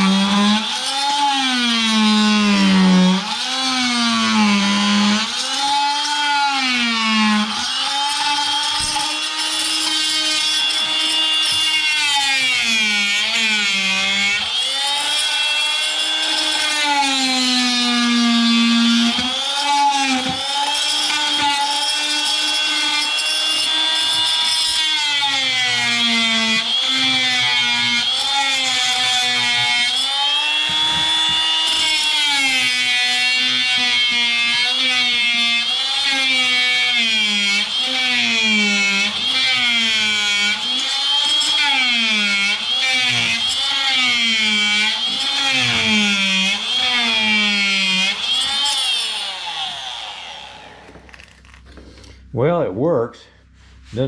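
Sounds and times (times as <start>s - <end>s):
oscillating multi-tool cutting wood: 0.0s - 51.6s.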